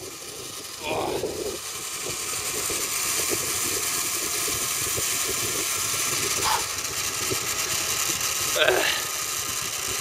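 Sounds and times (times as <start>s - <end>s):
wind rushing over microphone: 0.0s - 8.2s
zipline trolley whirring on cable: 0.0s - 10.0s.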